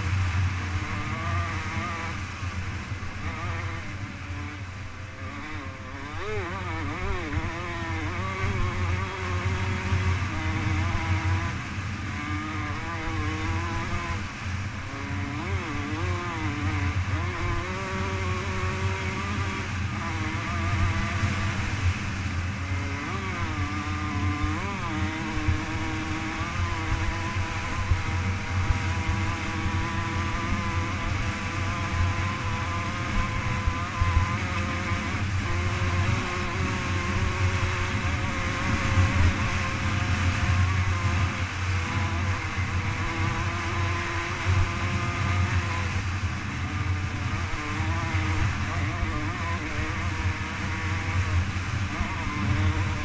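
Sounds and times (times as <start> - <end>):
constant rush of noise: 0.0 - 53.0
dirt bike engine running hard: 0.0 - 53.0.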